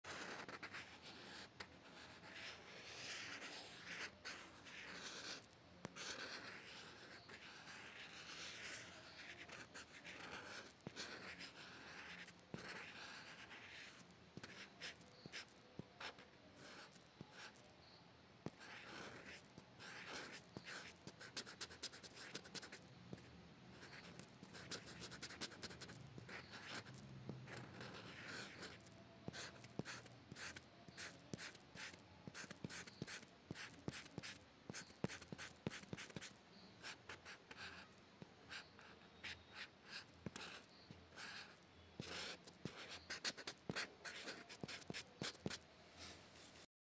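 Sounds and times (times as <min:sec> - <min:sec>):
pencil scratching on paper: 0:00.1 - 0:17.6, 0:18.4 - 0:45.6.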